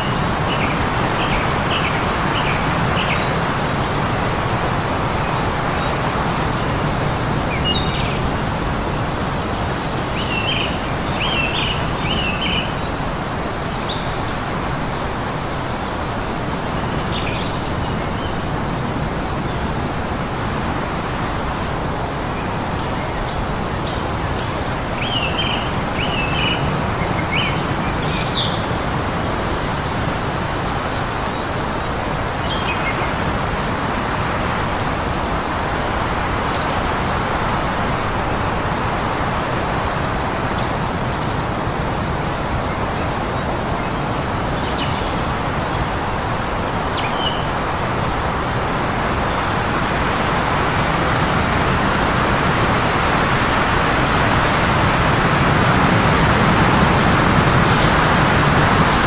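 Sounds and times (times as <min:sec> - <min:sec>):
heavy wind: 0:00.0 - 0:59.0.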